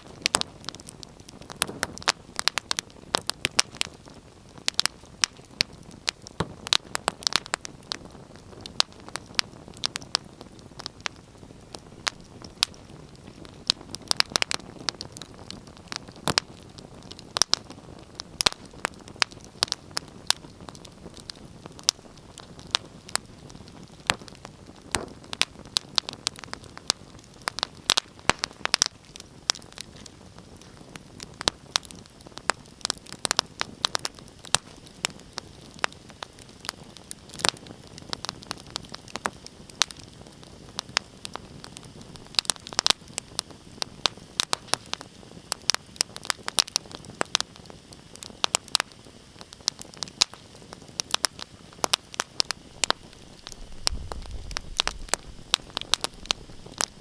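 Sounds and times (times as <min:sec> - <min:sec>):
fire pops and snaps: 0:00.0 - 0:57.0
low hiss of flames: 0:00.0 - 0:57.0.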